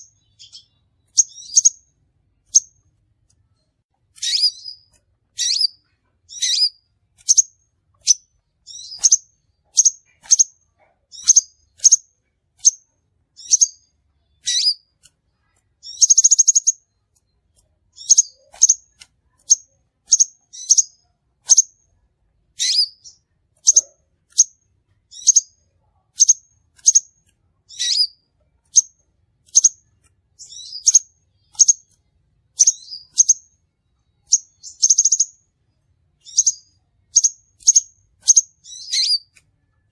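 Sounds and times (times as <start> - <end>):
buzzy bird trill: 0.0 - 2.9, 4.1 - 21.9, 22.6 - 35.5, 36.2 - 39.4
bird chirping: 0.0 - 39.9.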